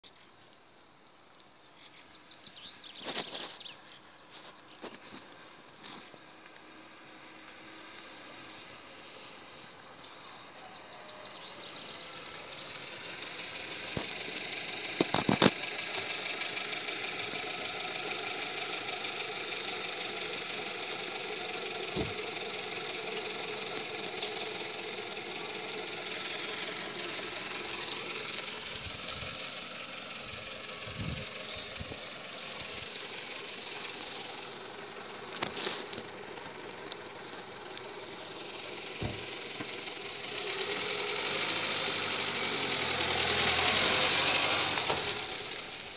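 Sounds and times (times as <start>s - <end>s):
car engine idling: 2.2s - 45.9s.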